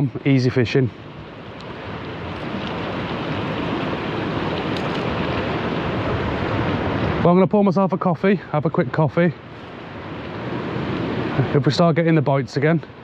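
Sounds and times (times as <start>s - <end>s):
sea rushing: 0.0s - 13.0s
wind: 0.0s - 13.0s.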